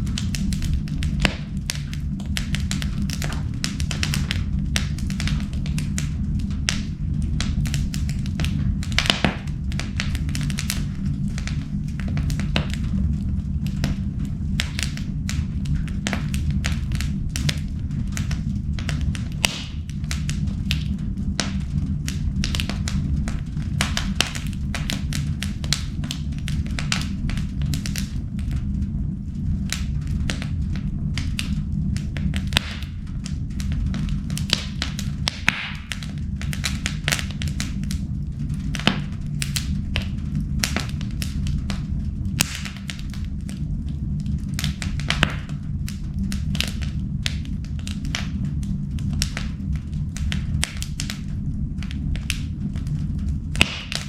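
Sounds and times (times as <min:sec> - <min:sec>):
low hum: 0:00.0 - 0:54.0
wood fire crackling: 0:00.0 - 0:54.0.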